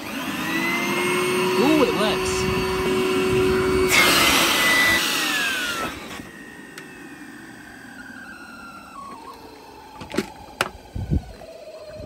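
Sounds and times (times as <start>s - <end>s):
vacuum cleaner motor spinning down: 0.0s - 12.0s.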